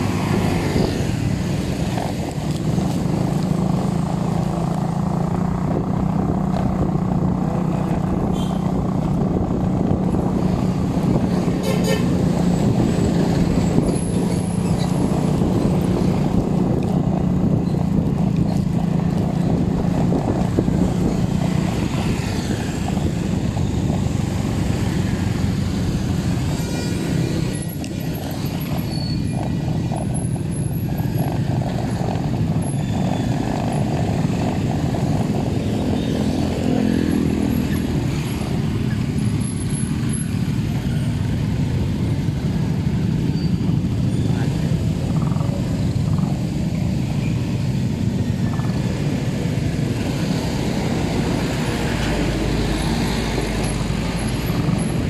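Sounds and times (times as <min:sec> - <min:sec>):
road and wind rumble: 0:00.0 - 0:55.0
vehicle engine humming: 0:00.0 - 0:55.0.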